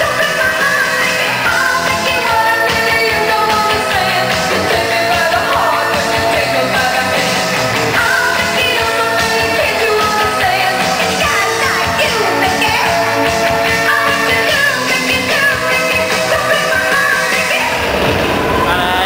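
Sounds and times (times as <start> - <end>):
dance music with sung vocal: 0.0 - 19.0.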